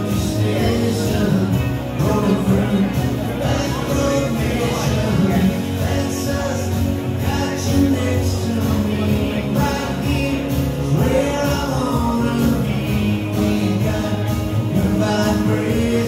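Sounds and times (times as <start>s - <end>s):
acoustic guitar: 0.0s - 16.0s
person singing: 0.0s - 16.0s.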